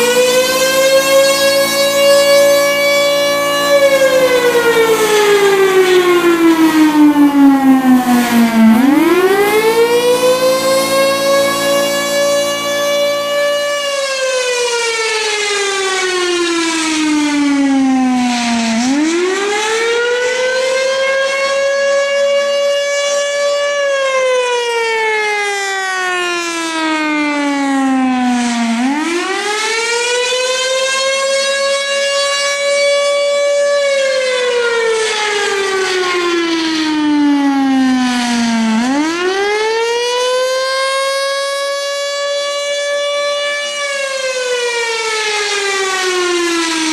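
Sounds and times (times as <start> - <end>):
siren wailing: 0.0 - 46.9.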